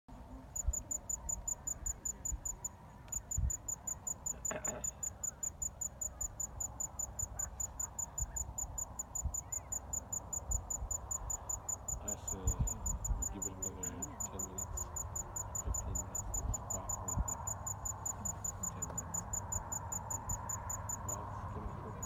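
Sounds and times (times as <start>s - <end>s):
insect chirping: 0.4s - 22.0s.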